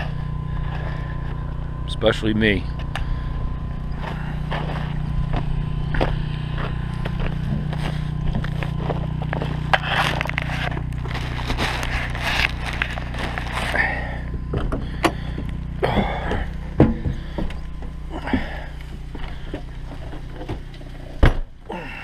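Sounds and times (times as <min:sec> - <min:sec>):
steady low hum: 0:00.0 - 0:22.0
footsteps walking: 0:02.7 - 0:21.2.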